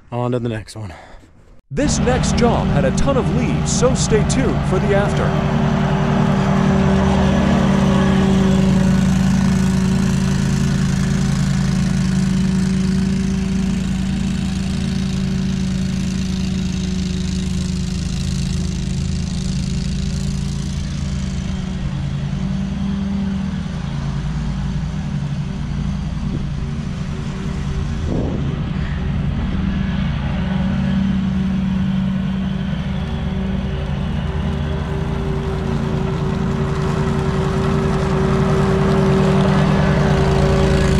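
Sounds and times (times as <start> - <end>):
riding mower running: 1.7 - 40.9.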